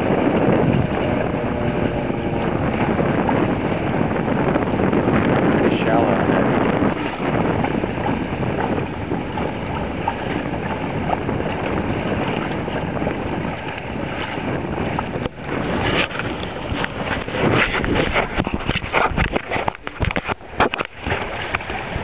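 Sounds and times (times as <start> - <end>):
water chop: 0.0 - 22.0
wind buffeting microphone: 0.0 - 22.0.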